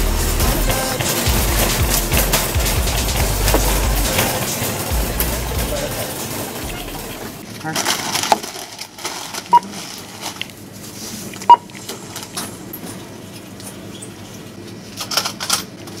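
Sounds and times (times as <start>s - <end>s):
shop background noise: 0.0s - 16.0s
clicks and rustles: 0.5s - 13.8s.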